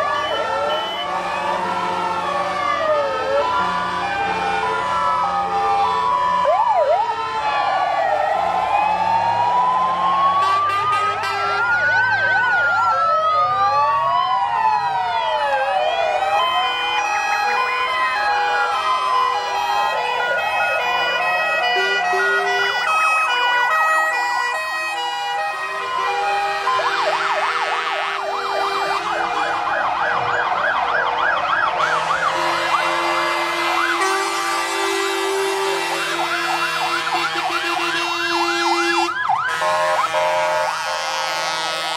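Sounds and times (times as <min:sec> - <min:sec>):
fire engine sirens wailing: 0:00.0 - 0:41.9.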